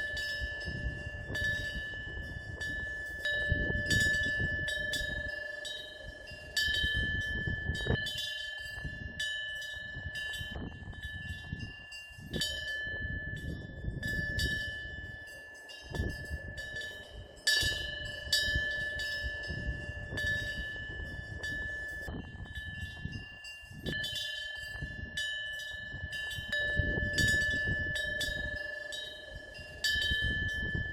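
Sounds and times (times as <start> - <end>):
small bronze wind bell ringing: 0.0 - 30.9.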